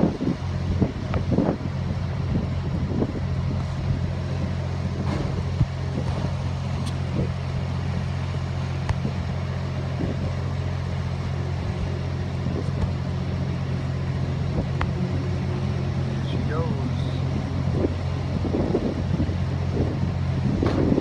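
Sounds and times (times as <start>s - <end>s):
heavy machinery humming: 0.0s - 21.0s.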